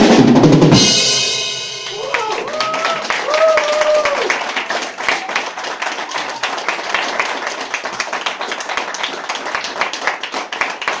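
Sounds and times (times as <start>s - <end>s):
audience clapping: 1.8s - 11.0s.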